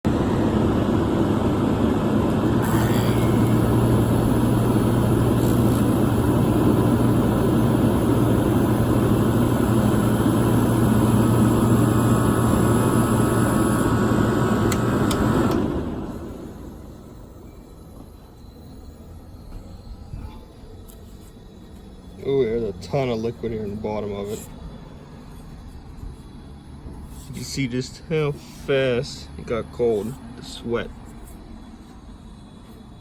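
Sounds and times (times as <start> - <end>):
air conditioner blower noise: 0.0 - 33.0
compressor hum: 0.0 - 33.0.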